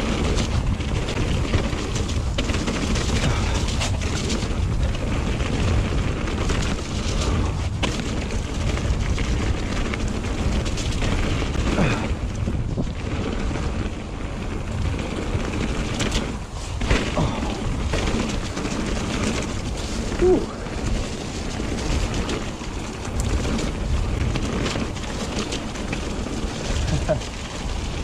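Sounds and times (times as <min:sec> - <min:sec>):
bike knocking over bumps: 0:00.0 - 0:28.0
bike tyres rumbling: 0:00.0 - 0:28.0
wind buffeting microphone: 0:00.0 - 0:28.0.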